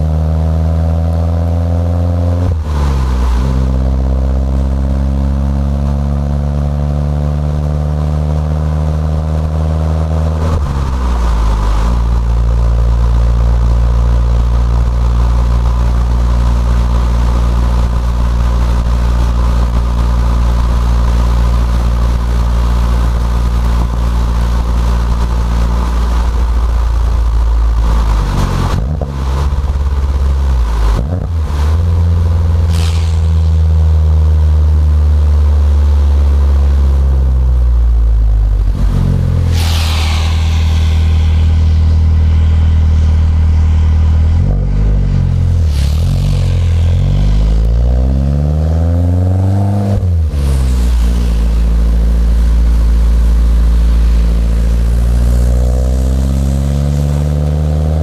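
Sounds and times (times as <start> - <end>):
car engine droning in cabin: 0.0 - 58.0.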